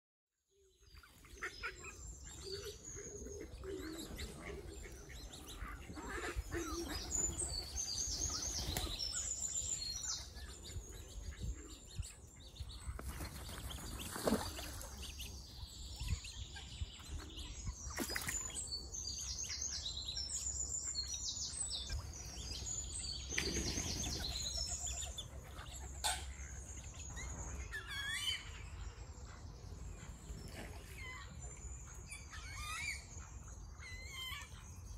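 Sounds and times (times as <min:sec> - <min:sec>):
songbirds chirping and trilling: 0:00.5 - 0:34.9.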